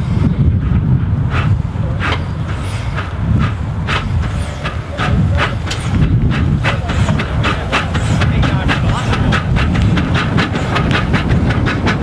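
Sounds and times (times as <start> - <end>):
low rumble: 0.0 - 12.0
steam train chuffing: 0.0 - 12.0.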